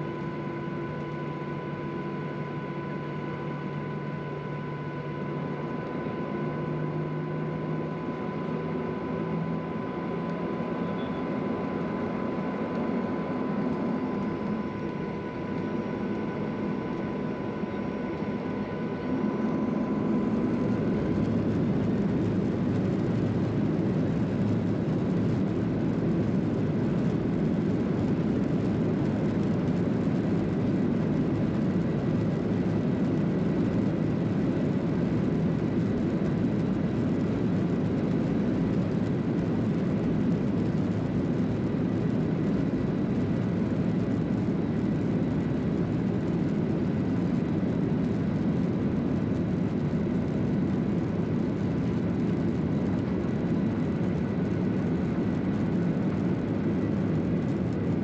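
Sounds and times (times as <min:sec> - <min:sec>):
faint high engine whine: 0:00.0 - 0:58.0
jet engines at takeoff thrust: 0:00.0 - 0:58.0.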